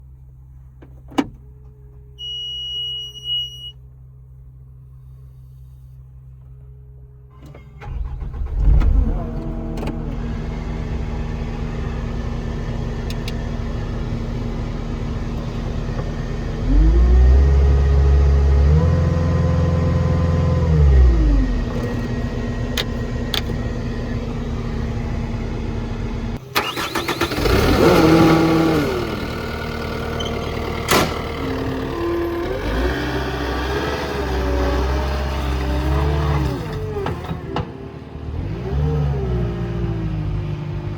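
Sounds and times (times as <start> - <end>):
diesel engine idling and revving: 6.1 - 40.9.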